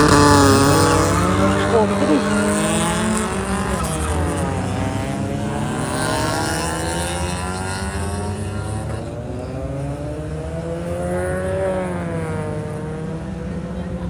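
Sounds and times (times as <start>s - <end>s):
car engines revving and accelerating: 0.0s - 14.0s.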